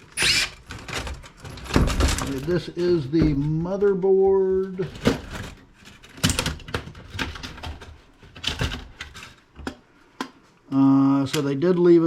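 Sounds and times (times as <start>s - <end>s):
laptop parts clicking and clattering: 0.0s - 10.4s.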